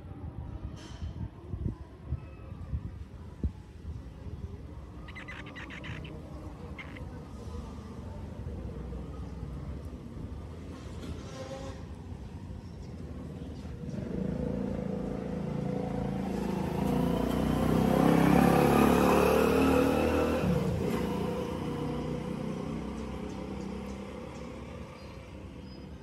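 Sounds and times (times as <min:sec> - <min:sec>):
motor vehicle passing by: 0:04.3 - 0:26.0.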